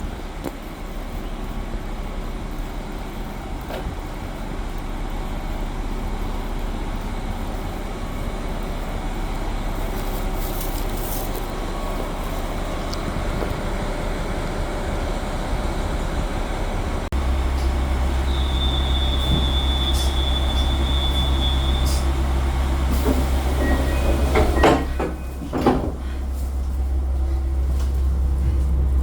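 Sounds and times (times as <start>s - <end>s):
diesel train engines idling: 0.0s - 29.0s.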